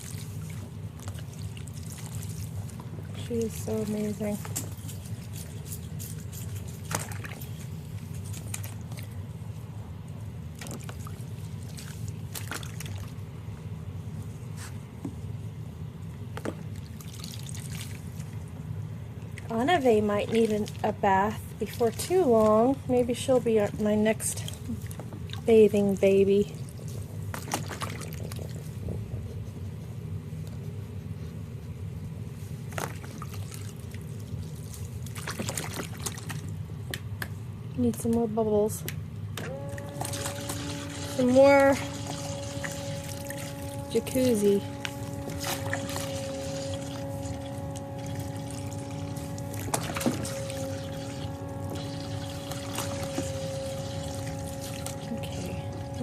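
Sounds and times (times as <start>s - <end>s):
light water splashes: 0.0s - 9.6s, 10.5s - 13.6s, 16.4s - 29.0s, 32.6s - 37.1s, 39.4s - 56.0s
water sloshing and dripping: 0.0s - 14.6s, 16.1s - 29.2s, 32.4s - 38.2s, 39.4s - 56.0s
steady low hum: 0.0s - 56.0s.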